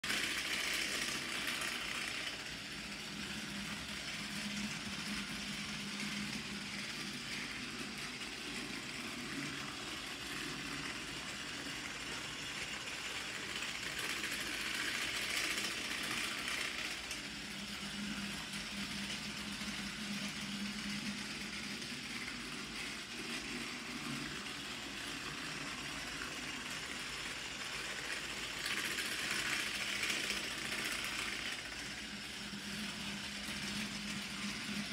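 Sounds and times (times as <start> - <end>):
toy train motor whir: 0.0 - 34.9
wheels rattling over rails: 0.0 - 34.9.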